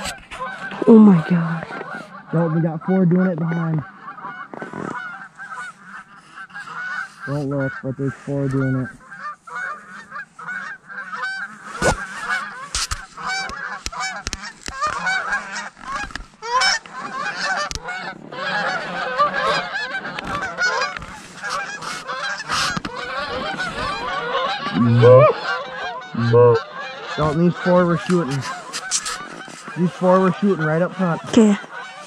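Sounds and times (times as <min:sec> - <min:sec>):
geese honking: 0:00.0 - 0:32.0.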